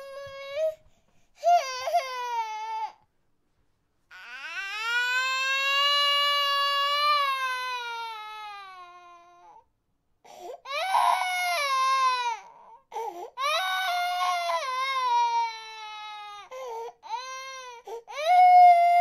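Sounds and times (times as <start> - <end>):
baby crying: 1.4 - 3.0, 4.1 - 9.6, 10.4 - 19.0.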